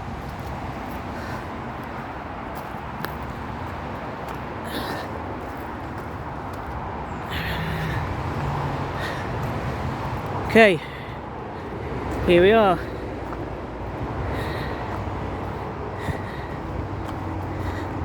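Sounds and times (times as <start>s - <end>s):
footsteps on path: 0.0s - 18.0s
low vehicle hum: 0.0s - 18.0s
motorway traffic rumble: 0.0s - 18.0s.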